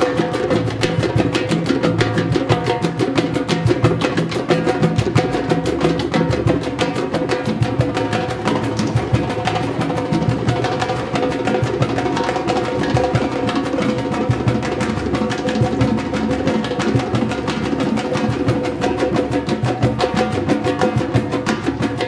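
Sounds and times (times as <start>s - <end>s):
hand drums: 0.0s - 22.0s
metal-shell drums played with sticks: 0.0s - 22.0s.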